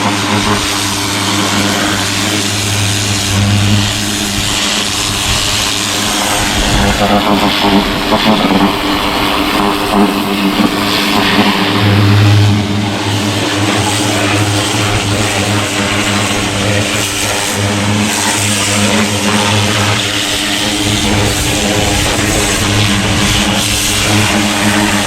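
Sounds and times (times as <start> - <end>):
pressure washer motor hum: 0.0 - 25.0
water spray hissing: 0.0 - 25.0.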